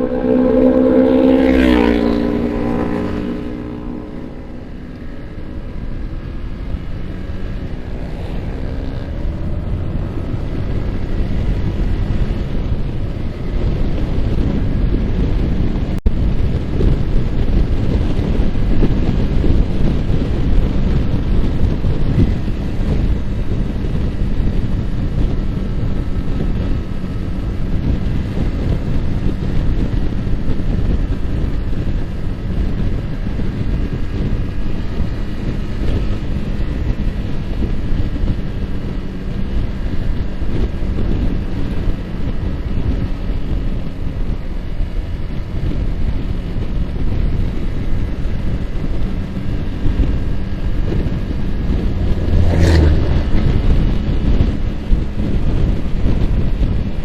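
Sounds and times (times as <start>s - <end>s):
motorcycle engine decelerating: 0.0s - 57.0s
wind on microphone: 0.0s - 57.0s.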